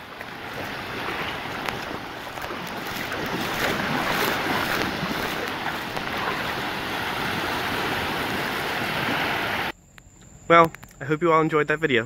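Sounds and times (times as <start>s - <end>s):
surf breaking over rocks: 0.0s - 9.7s
wind on microphone: 0.0s - 9.7s.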